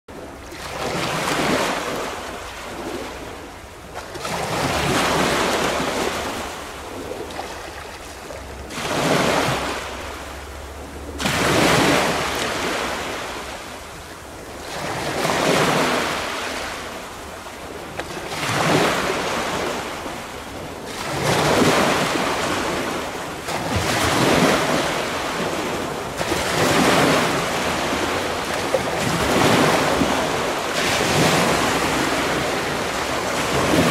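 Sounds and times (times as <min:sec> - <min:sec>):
small waves breaking on shore: 0:00.1 - 0:33.9.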